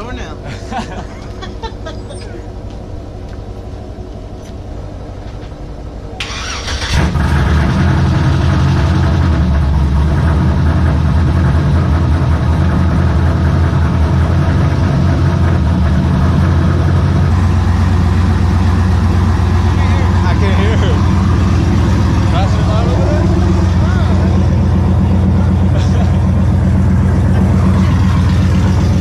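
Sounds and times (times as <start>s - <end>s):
vehicle engine starting and running: 0.0s - 29.0s.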